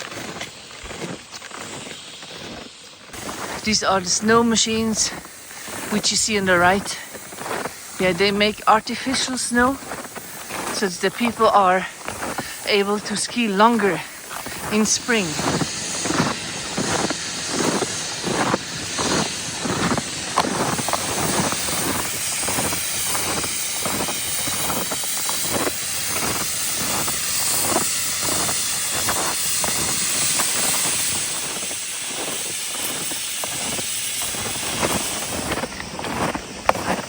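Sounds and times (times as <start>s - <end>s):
footsteps crunching through snow: 0.0s - 37.0s
snow-making machines hissing: 0.0s - 37.0s.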